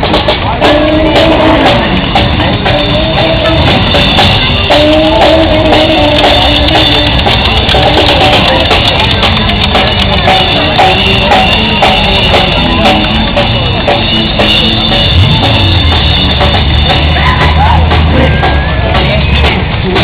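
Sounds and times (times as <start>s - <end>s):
drum kit beating: 0.0s - 20.0s
live rock band playing: 0.0s - 20.0s.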